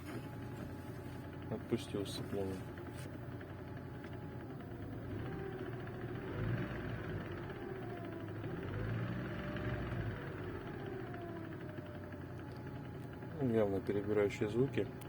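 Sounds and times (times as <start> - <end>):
drivetrain rumble and rattle: 0.0 - 15.0.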